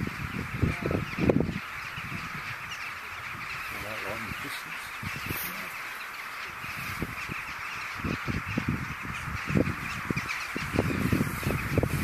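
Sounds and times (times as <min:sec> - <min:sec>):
low microphone rumbles: 0:00.0 - 0:05.7, 0:06.5 - 0:12.0
rooks cawing: 0:00.0 - 0:12.0.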